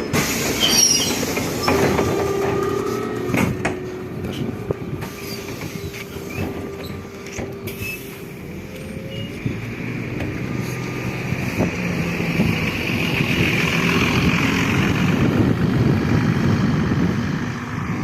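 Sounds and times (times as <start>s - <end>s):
bus engine: 0.0s - 18.0s
road noise: 0.0s - 18.0s.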